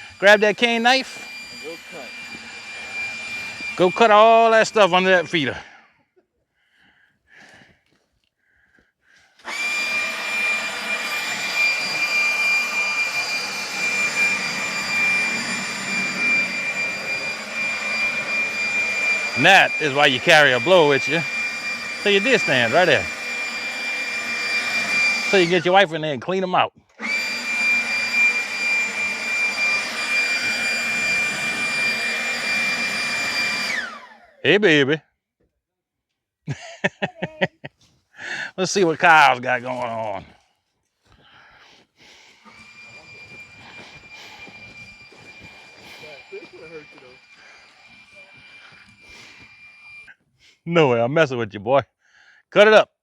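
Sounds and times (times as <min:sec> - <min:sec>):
leaf blower running: 0:00.0 - 0:05.8, 0:09.2 - 0:34.7, 0:36.8 - 0:40.4, 0:41.0 - 0:50.1.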